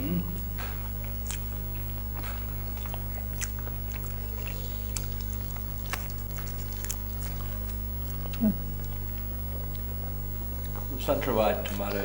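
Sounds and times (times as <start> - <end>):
low electrical hum: 0.0 - 12.0
people chewing food: 0.0 - 12.0.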